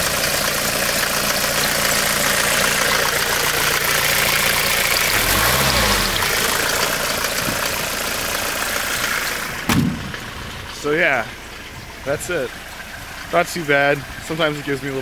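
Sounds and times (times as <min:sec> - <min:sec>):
diesel engine revving and idling: 0:00.0 - 0:15.0.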